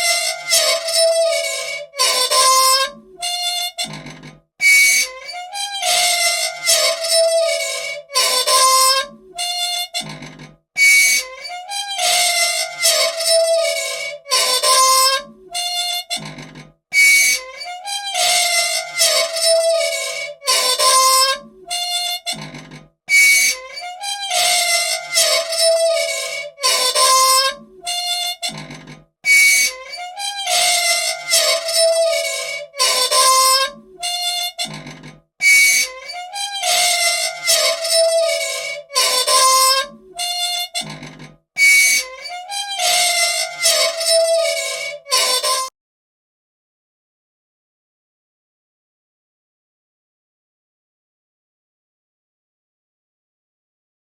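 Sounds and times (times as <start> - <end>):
machine squeaking: 0.0 - 45.7.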